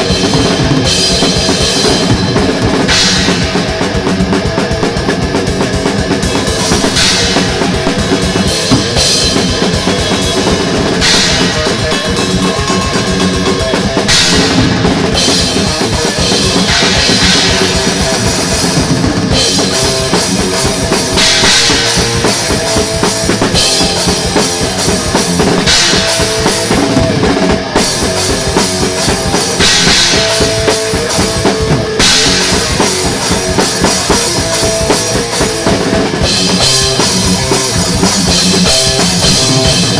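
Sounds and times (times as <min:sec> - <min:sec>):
cymbal crashes: 0:00.0 - 0:04.1, 0:06.5 - 0:39.9
fast bass drum and snare: 0:00.0 - 0:39.9
thrash metal band: 0:00.0 - 0:39.9.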